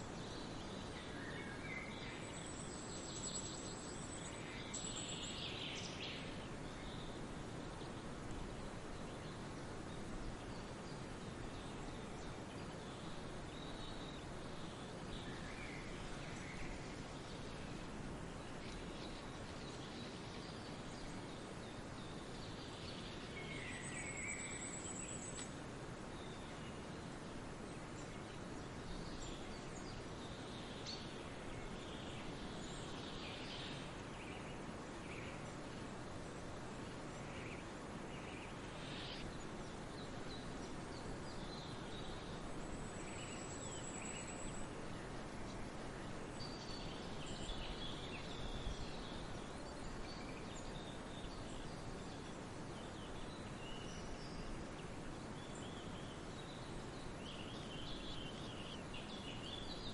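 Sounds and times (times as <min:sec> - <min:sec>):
small birds chirping and trilling: 0:00.0 - 0:59.9
steady outdoor hiss: 0:00.0 - 0:59.9.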